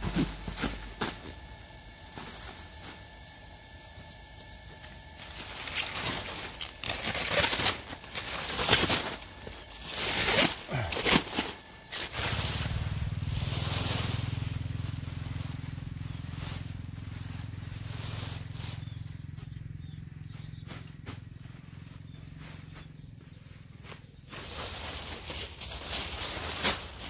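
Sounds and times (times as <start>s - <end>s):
plastic sheet and straw rustling: 0.0s - 27.0s
steady low hum: 0.0s - 27.0s.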